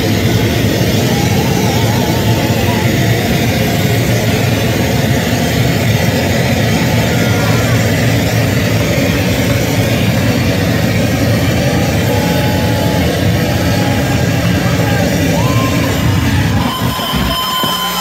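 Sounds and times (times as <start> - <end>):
harsh noise music: 0.0 - 18.0.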